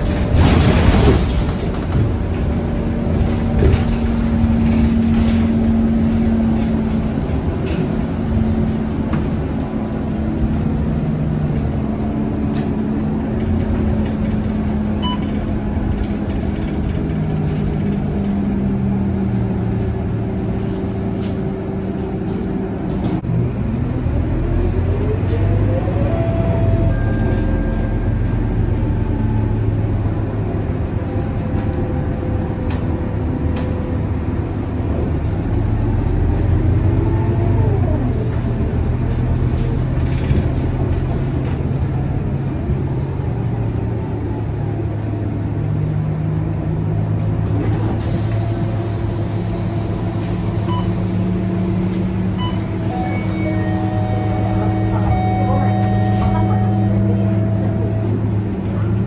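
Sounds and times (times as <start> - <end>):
bus diesel engine droning: 0.0 - 59.0
road rumble: 0.0 - 59.0.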